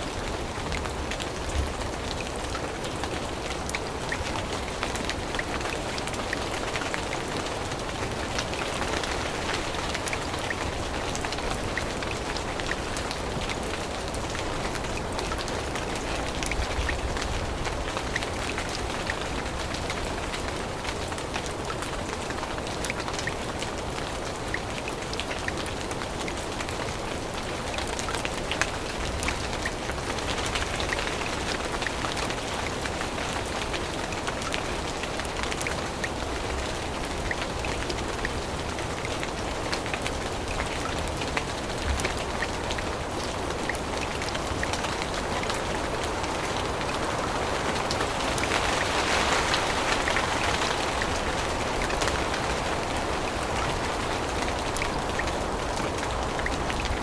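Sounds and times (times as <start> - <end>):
rain falling through forest: 0.0 - 57.0
raindrops ticking close by: 0.0 - 57.0.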